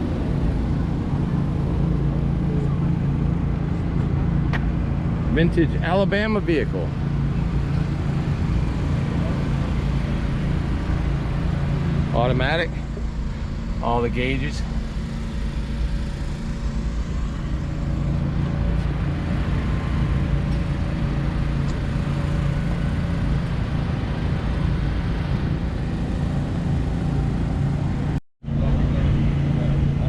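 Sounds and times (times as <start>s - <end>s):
car engine humming: 0.0s - 28.2s.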